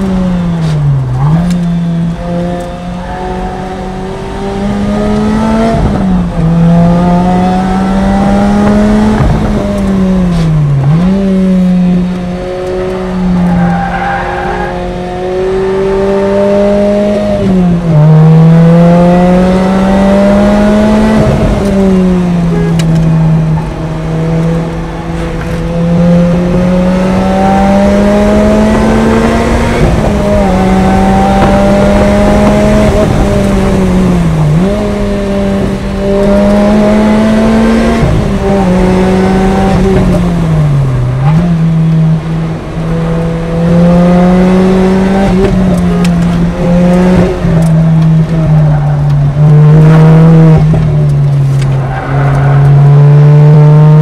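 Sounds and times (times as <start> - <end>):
car engine revving through gears: 0.0 - 54.0
road and wind noise: 0.0 - 54.0.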